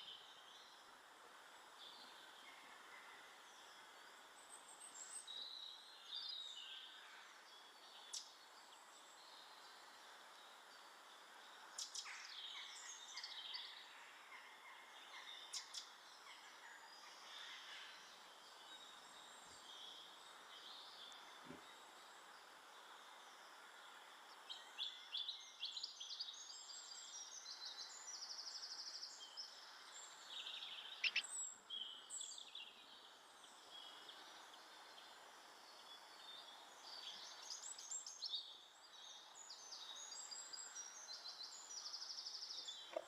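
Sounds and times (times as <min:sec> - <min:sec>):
small birds chirping: 0:00.0 - 0:43.0
steady background hiss: 0:00.0 - 0:43.0.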